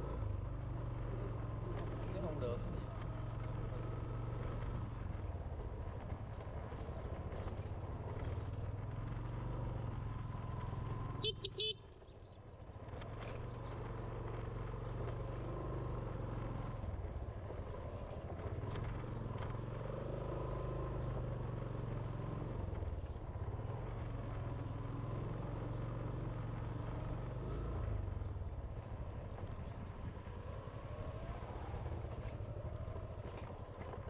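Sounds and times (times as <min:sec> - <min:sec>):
small motorbike engine cruising: 0:00.0 - 0:34.0.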